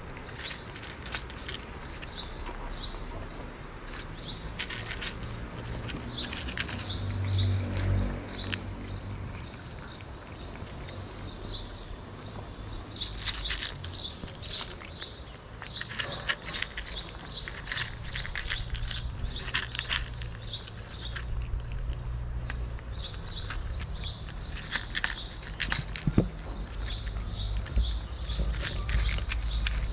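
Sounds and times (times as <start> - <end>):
cats crunching dry kibble: 0.0 - 29.9.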